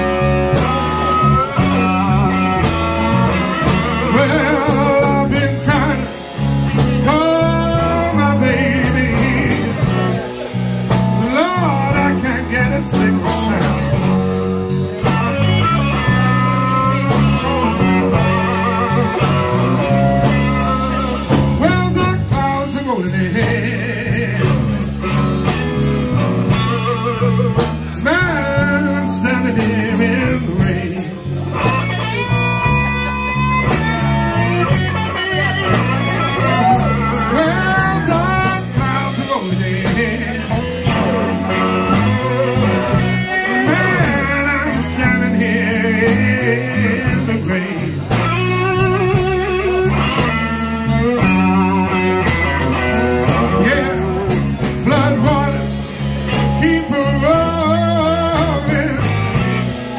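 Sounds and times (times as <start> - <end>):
bass and drums: 0.0 - 59.9
electric guitar lead with bent notes: 0.0 - 59.9
man singing: 0.0 - 59.9.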